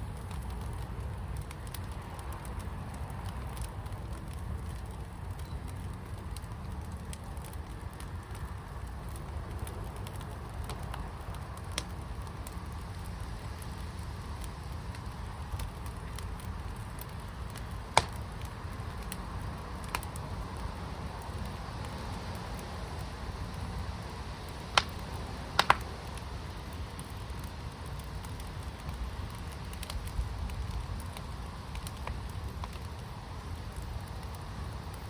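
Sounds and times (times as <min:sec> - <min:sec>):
fire crackles and pops: 0:00.0 - 0:35.0
fire low rumble: 0:00.0 - 0:35.0.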